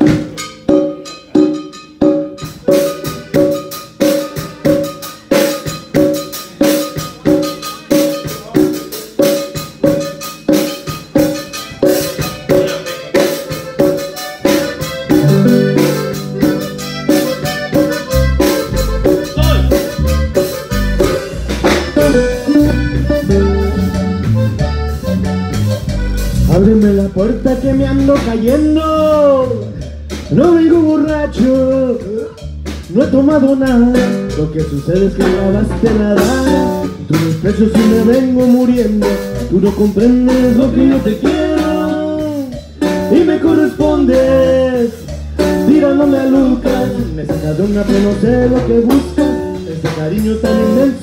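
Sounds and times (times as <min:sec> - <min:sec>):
bass guitar: 0:00.0 - 0:51.0
congas: 0:00.0 - 0:51.0
drum kit beat: 0:00.0 - 0:51.0
repeating pitched notes: 0:00.0 - 0:51.0.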